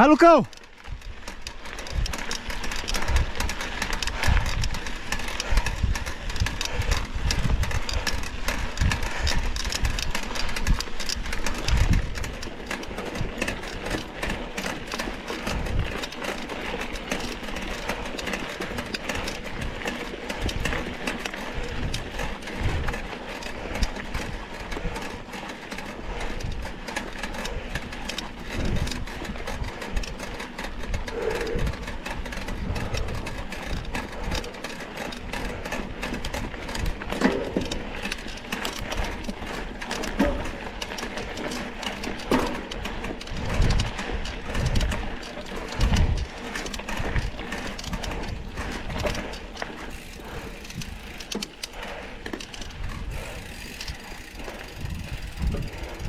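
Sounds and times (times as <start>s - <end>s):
bike tyre and trail noise: 0.0s - 56.0s
rapid rattling clicks: 0.2s - 56.0s
wind buffeting the microphone: 0.8s - 25.2s, 26.0s - 56.0s.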